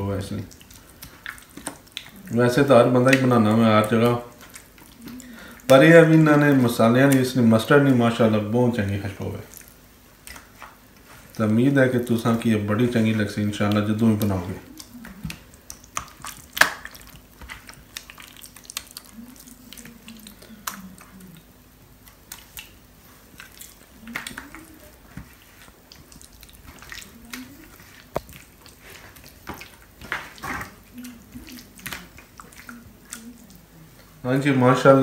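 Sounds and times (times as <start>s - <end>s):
hands squelching raw meat: 0.0s - 35.0s.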